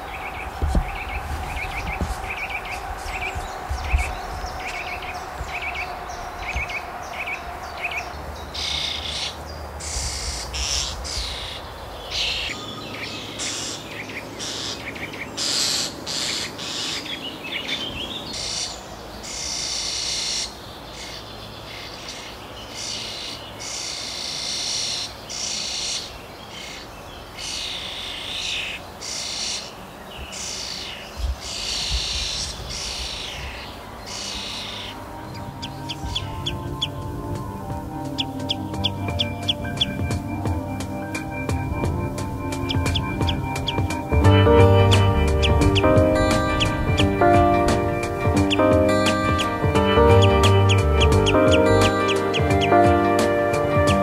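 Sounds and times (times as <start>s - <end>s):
rapid bird twittering: 0.0s - 53.2s.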